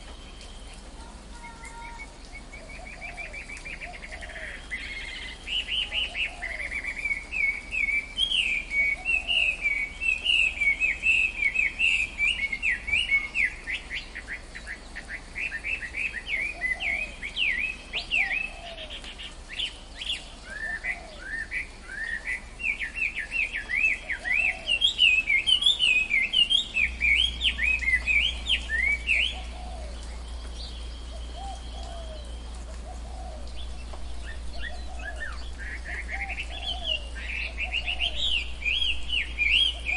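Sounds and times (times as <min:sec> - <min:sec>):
birds chirping: 0:00.0 - 0:39.9
lower bird calls: 0:00.0 - 0:39.9.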